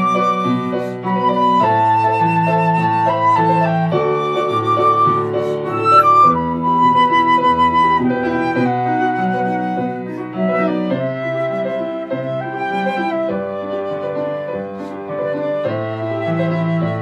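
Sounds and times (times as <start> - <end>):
flute melody: 0.0 - 17.0
piano accompaniment: 0.0 - 17.0.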